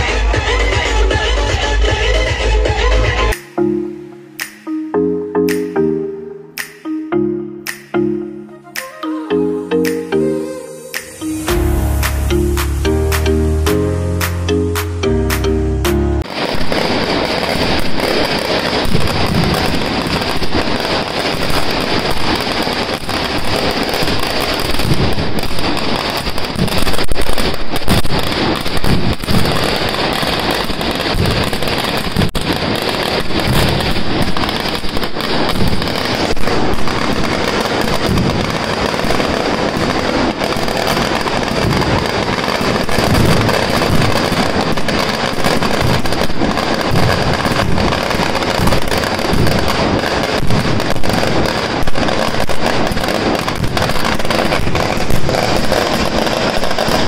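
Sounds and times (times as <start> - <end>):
firecrackers crackling: 8.7 - 57.0
fireworks bangs: 10.7 - 57.0.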